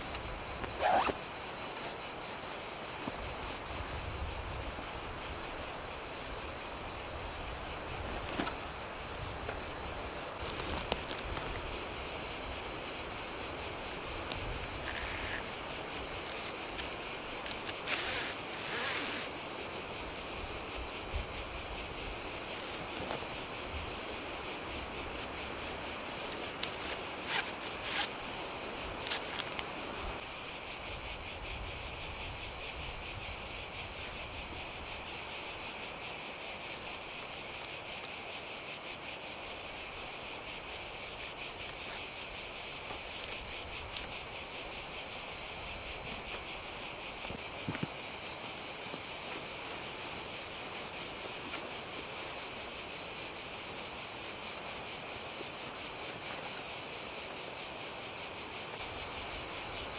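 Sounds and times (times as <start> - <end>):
high-pitched insect chorus trilling: 0.0 - 59.9.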